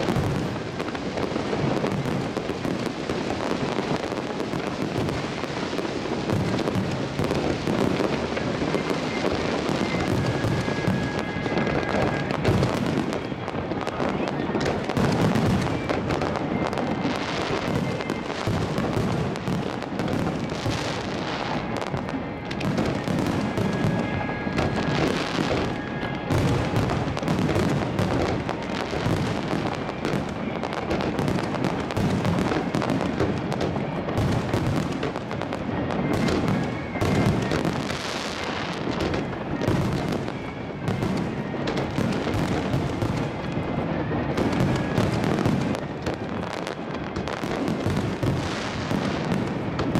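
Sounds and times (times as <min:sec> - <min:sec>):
fireworks crackling: 0:00.0 - 0:49.9.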